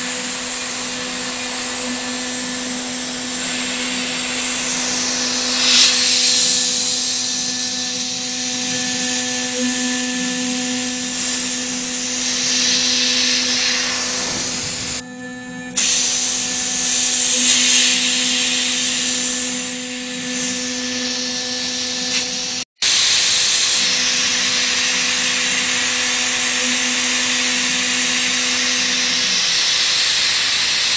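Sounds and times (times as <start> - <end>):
bit cutting metal hiss: 0.0 - 30.9
router spindle high-pitched whine: 0.0 - 30.9.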